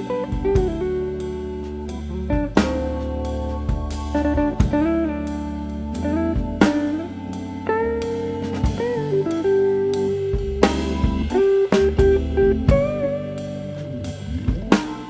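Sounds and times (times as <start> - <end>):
drum beat: 0.0 - 5.4, 6.0 - 7.1, 8.0 - 15.0
guitar melody: 0.0 - 15.0.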